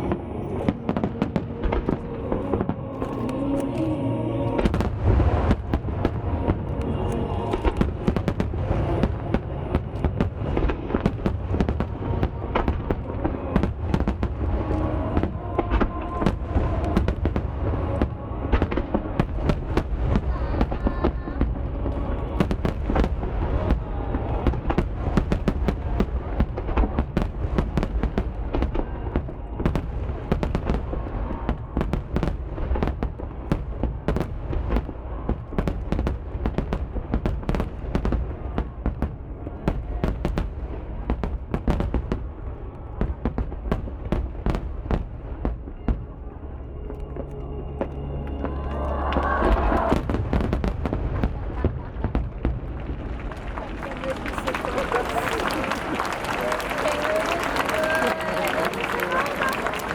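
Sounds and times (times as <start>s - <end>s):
fireworks bursting: 0.0s - 46.3s, 49.1s - 59.9s.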